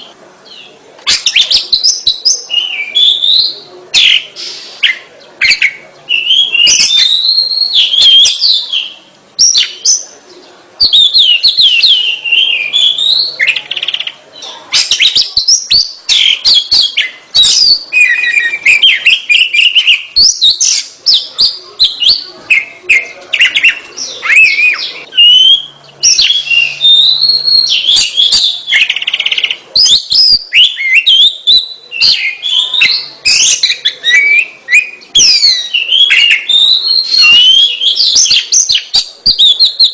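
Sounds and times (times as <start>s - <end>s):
bird singing loud varied song: 0.0s - 39.9s.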